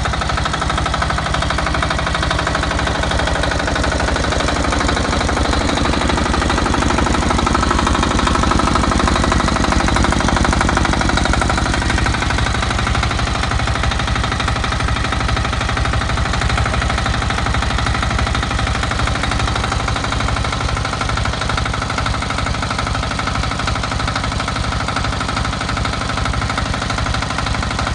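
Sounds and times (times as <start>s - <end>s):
pressure washer pulsing rattle: 0.0s - 27.9s.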